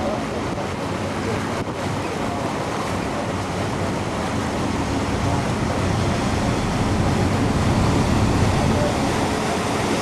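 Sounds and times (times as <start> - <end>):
water rushing: 0.0 - 10.0.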